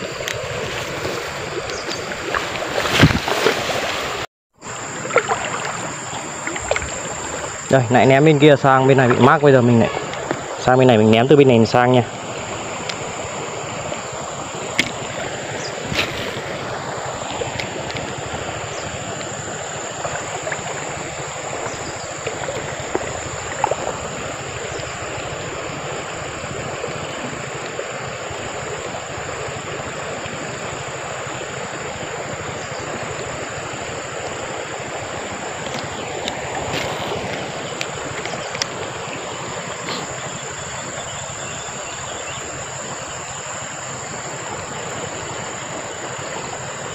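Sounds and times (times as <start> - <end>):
flowing stream water: 0.0 - 46.9
high-pitched insect drone: 0.0 - 46.9.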